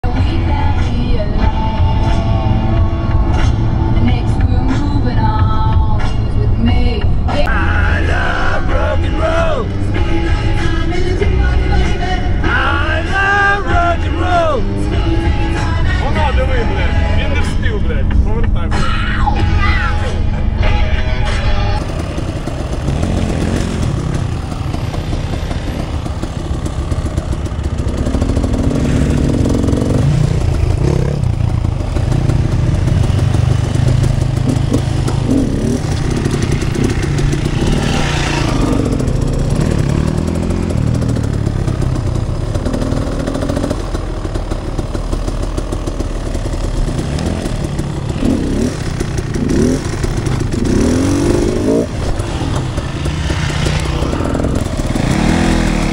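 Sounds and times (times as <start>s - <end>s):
dirt bike engine revving: 7.4s - 17.6s, 21.2s - 55.9s.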